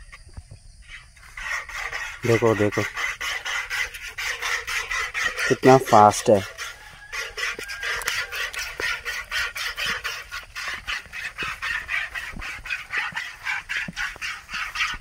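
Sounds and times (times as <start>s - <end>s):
milk squirting into a bucket: 1.4s - 15.0s.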